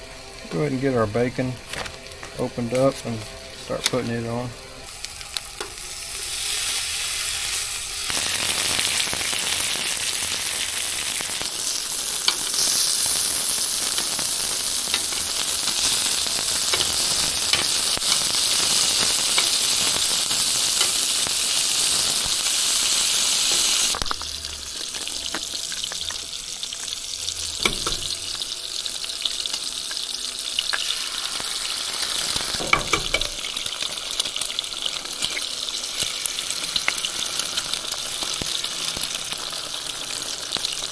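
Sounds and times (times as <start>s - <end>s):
sausage and bacon sizzling: 0.0s - 40.9s.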